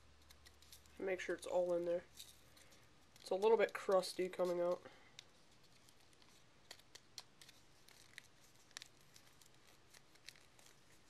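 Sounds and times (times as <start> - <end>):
faint clicks of objects handled: 0.1 - 11.0.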